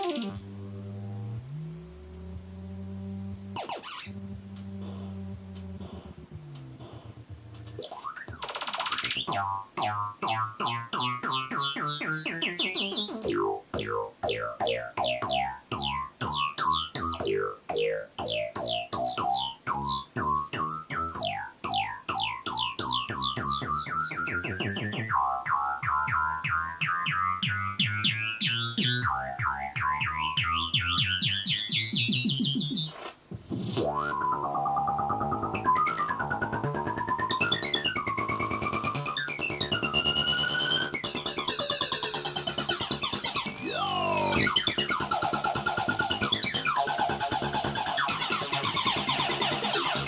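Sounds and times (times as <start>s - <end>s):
pulsing bass line: 0.0s - 8.5s, 9.1s - 31.7s, 33.4s - 50.0s
synthesizer falling chirps: 0.0s - 32.9s, 33.8s - 50.0s.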